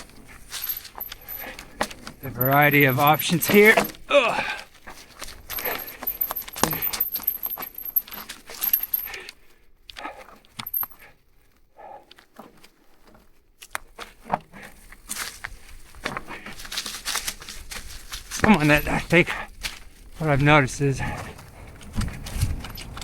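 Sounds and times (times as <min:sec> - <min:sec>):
mountain bike rattling on trail: 0:00.0 - 0:09.6, 0:14.0 - 0:23.0.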